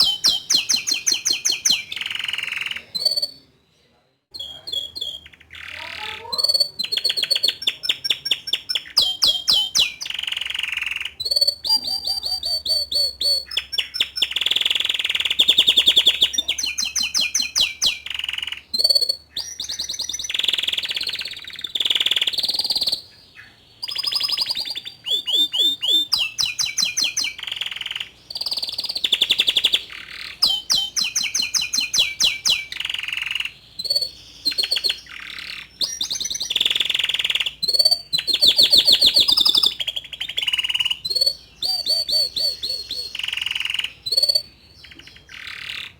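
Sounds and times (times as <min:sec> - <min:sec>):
canary singing trills: 0:00.0 - 0:03.7, 0:04.3 - 0:45.9.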